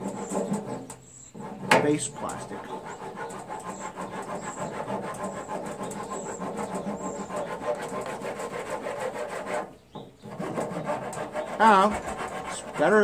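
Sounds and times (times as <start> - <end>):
hand file rasping: 0.0 - 13.0.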